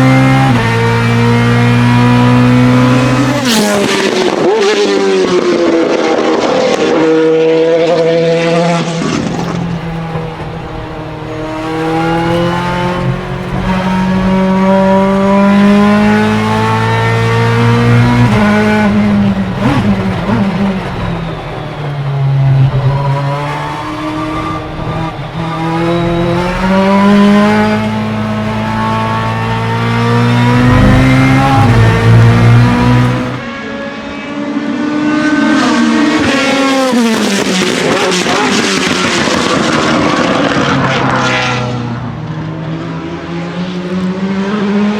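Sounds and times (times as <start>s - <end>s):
race car engine accelerating: 0.0s - 44.9s.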